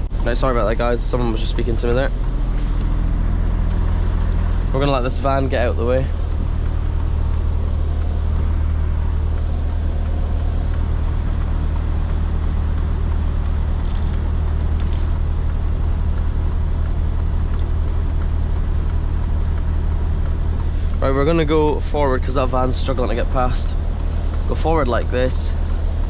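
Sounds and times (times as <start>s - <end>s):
lorry diesel engine idling: 0.0s - 26.0s.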